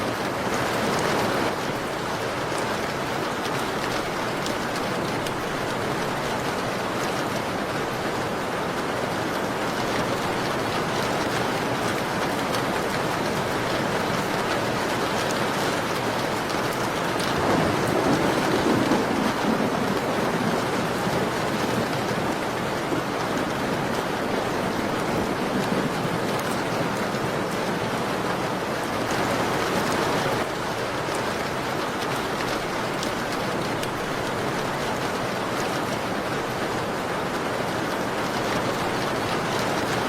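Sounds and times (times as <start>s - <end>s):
rain on a window: 0.0s - 40.0s.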